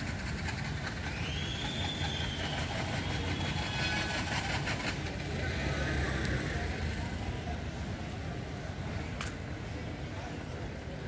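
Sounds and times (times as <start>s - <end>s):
train rumbling: 0.0s - 9.0s.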